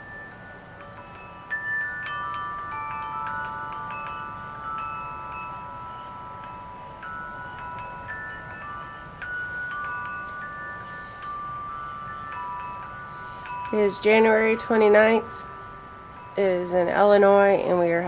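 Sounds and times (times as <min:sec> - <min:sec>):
wind chimes ringing: 0:00.0 - 0:18.0.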